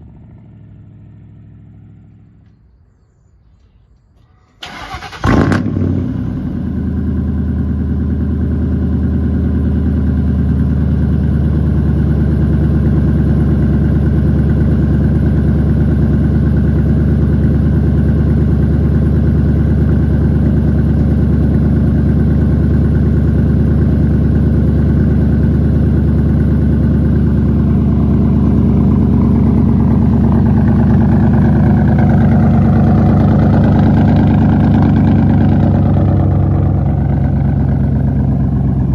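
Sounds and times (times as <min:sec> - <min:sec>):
car engine idling loudly: 0:04.6 - 0:38.9.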